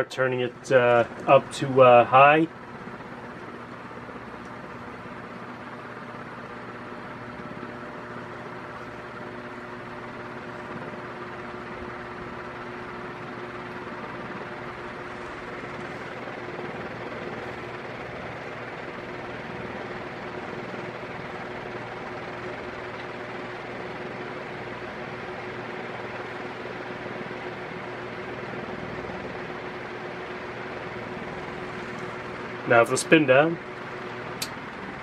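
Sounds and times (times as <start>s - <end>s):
ceiling fan motor buzz: 0.0s - 35.0s
fan blades air noise: 0.0s - 35.0s.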